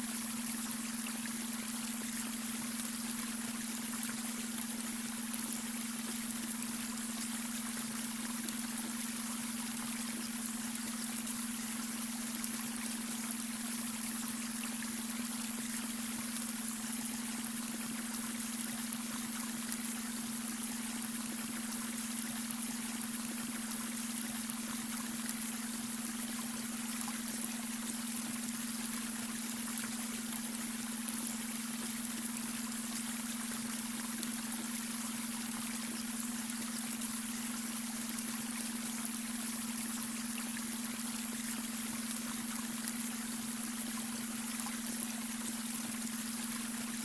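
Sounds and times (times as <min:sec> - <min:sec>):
running water of brook: 0:00.0 - 0:47.0.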